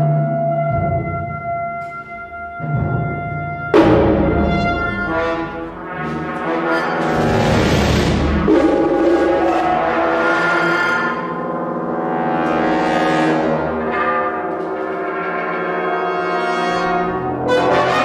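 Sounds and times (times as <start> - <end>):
brass ensemble chords: 0.0 - 18.0.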